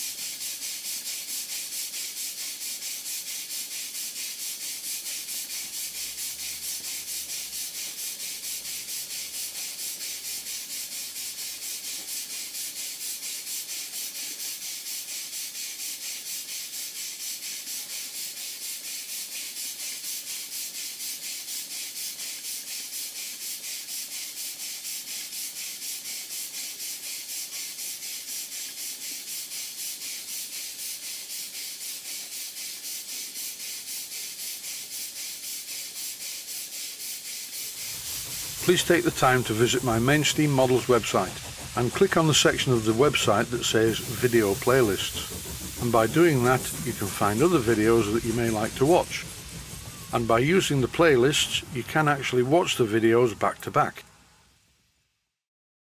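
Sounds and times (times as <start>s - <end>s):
model steam engine hissing: 0.0s - 54.9s.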